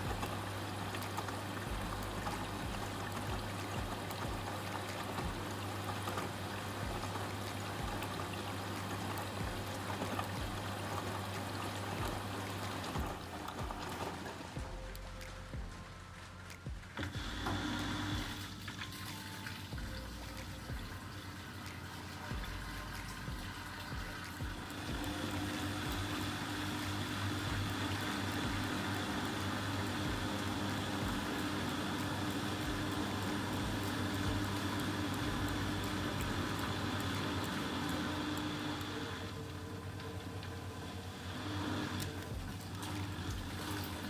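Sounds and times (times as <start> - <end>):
machine hum: 0.0 - 44.0
water running through washing machine: 0.0 - 44.0.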